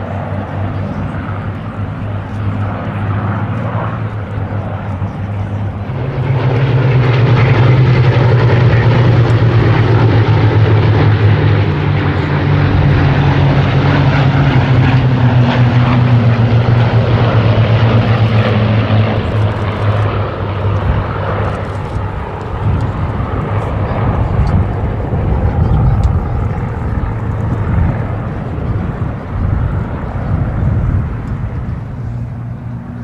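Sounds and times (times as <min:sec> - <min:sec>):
aircraft piston engines droning: 0:00.0 - 0:33.0.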